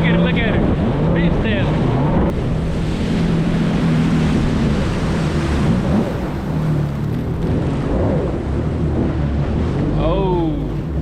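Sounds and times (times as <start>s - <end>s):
jet ski engine running: 0.0s - 11.0s
water noise: 0.0s - 11.0s
wind: 0.0s - 11.0s.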